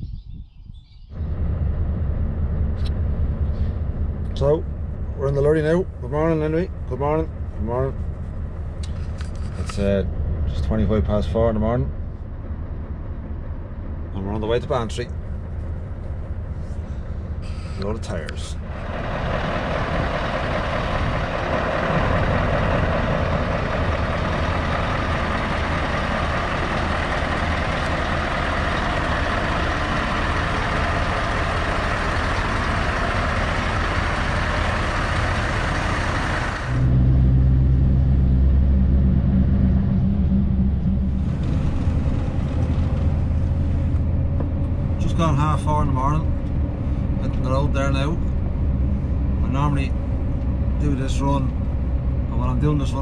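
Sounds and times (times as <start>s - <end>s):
deep lorry engine drone driving: 0.8s - 53.0s
lorry engine idling: 1.1s - 53.0s.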